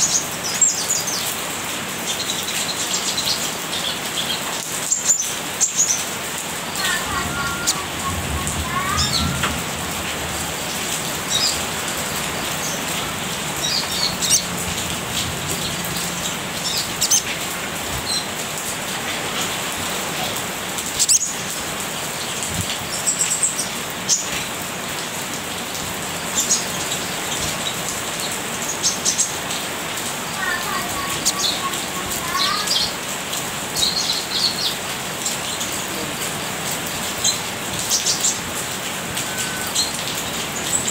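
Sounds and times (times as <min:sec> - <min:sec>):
bird chirping and twittering: 0:00.0 - 0:09.7, 0:10.4 - 0:18.4, 0:19.0 - 0:24.5, 0:26.0 - 0:29.6, 0:30.4 - 0:33.1, 0:33.7 - 0:35.9, 0:37.1 - 0:40.9.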